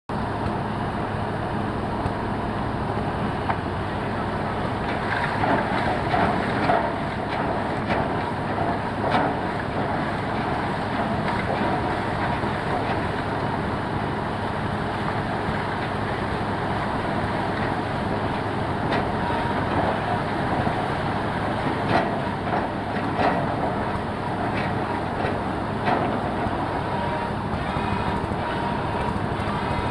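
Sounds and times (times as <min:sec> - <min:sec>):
heavy machinery engine hum: 0:00.1 - 0:29.9.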